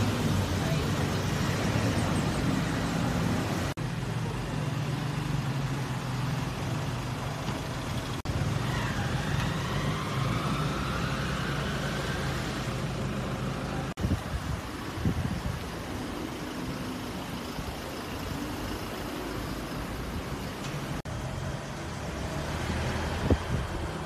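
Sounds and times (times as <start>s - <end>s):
vehicle engines idling: 0.0s - 24.0s.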